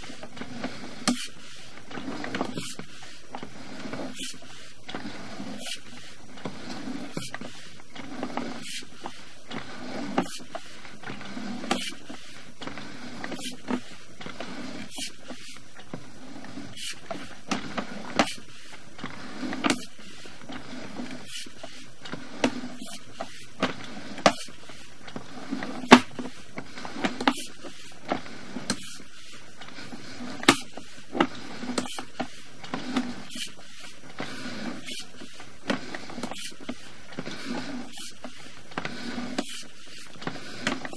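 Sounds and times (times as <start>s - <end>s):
cable reel rumble: 0.0s - 40.9s.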